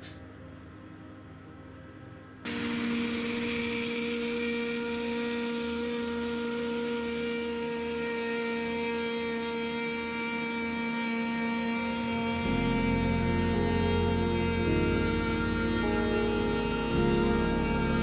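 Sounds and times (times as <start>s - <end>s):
router spindle whine: 2.5s - 18.0s.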